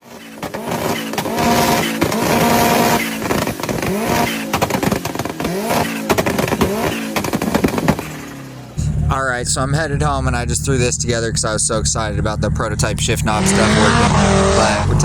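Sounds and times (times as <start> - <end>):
sharp cracks on gear shifts: 0.0 - 15.0
turbocharged car engine accelerating: 0.0 - 15.0.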